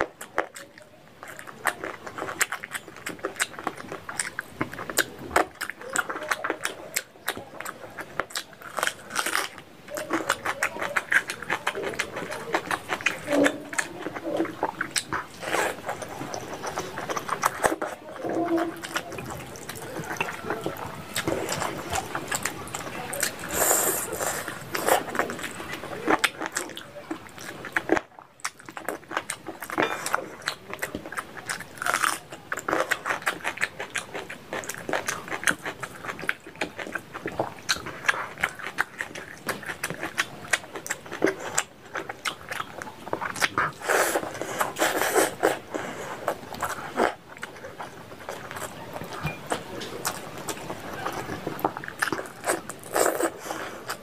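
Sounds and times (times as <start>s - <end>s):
person chewing and lip-smacking: 0.0s - 54.0s.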